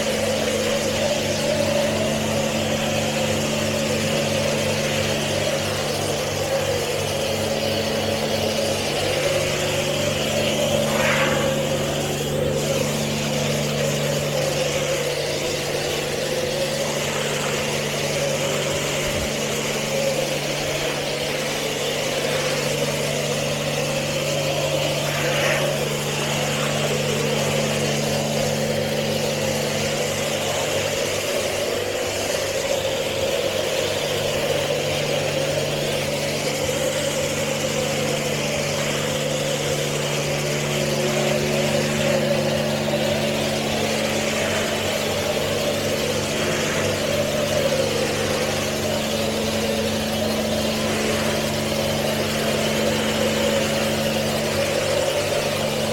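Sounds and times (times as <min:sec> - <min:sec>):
car wash mechanical hum: 0:00.0 - 0:55.9
rushing water: 0:00.0 - 0:55.9.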